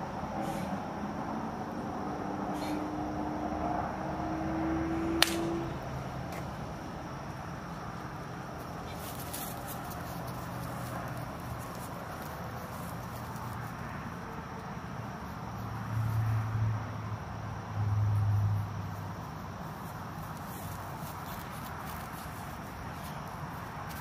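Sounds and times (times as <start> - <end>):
night insects chirping: 0.0 - 24.0.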